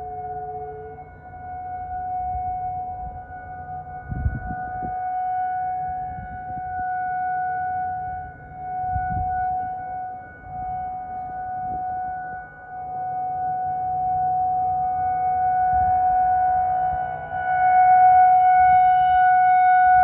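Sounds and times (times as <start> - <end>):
warning siren steady tone: 0.0 - 20.0.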